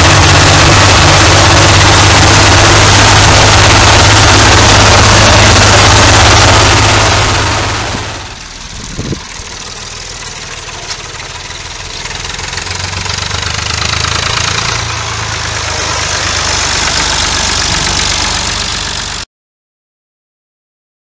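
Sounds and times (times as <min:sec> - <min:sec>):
tractor diesel engine running: 0:00.0 - 0:19.2.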